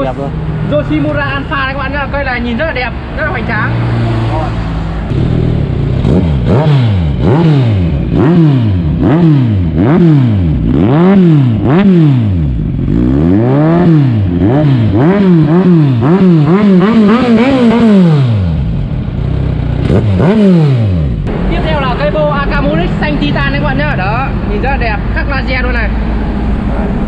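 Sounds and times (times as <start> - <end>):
motorcycle engine revving: 3.2 - 25.2.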